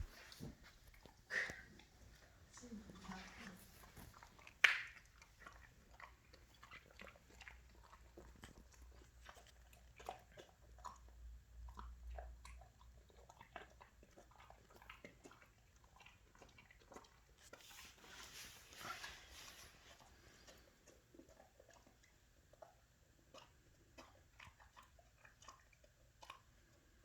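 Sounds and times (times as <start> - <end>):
dog chewing and crunching: 3.0 - 27.0.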